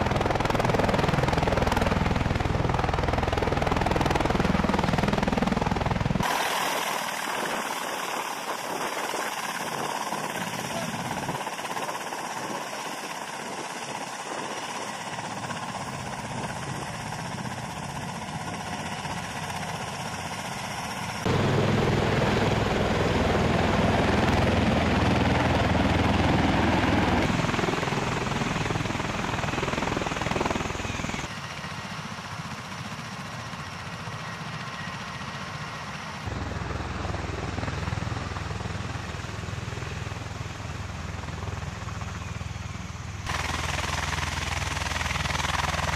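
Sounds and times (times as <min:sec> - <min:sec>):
tiltrotor aircraft engines and rotors: 0:00.0 - 0:45.9.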